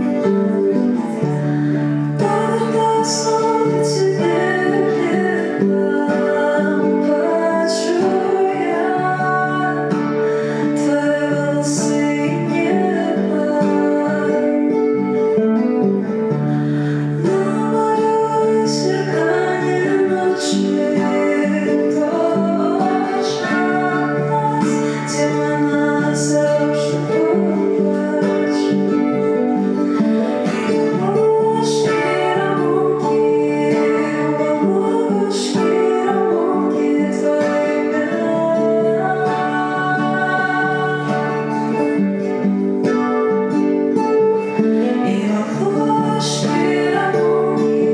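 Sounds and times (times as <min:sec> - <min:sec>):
acoustic guitar: 0:00.0 - 0:47.9
woman singing: 0:00.0 - 0:47.9.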